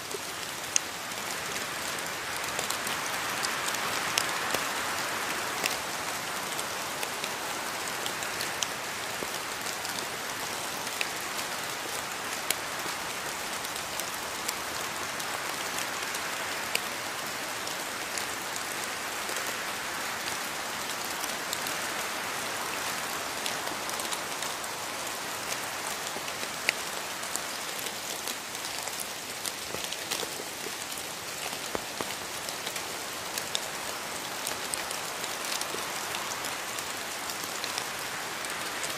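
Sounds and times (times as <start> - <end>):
individual raindrops: 0.0 - 38.9
rain falling on foliage: 0.0 - 38.9.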